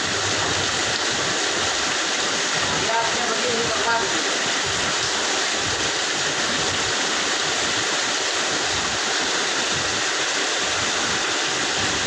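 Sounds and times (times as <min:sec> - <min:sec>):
water rushing through machine: 0:00.0 - 0:12.0.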